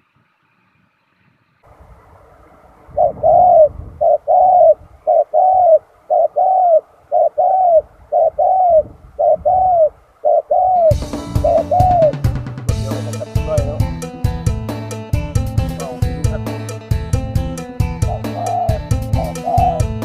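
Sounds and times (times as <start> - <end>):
dove cooing: 1.9 - 14.0, 15.5 - 20.0.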